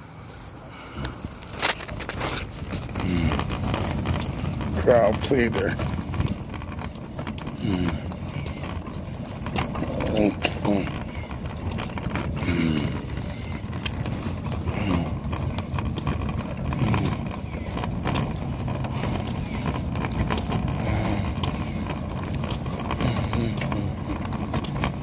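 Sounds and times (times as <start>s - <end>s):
muffled low rumble: 0.0s - 25.0s
clothing rubbing on microphone: 0.2s - 25.0s
faint voices: 2.2s - 6.5s, 7.1s - 25.0s.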